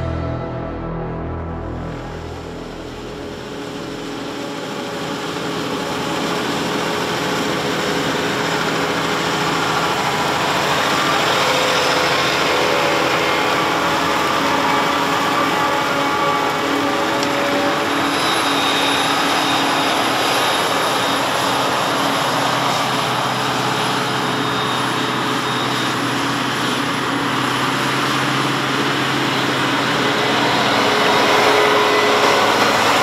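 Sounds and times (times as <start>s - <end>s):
harvest machinery engine noise: 0.0s - 33.0s.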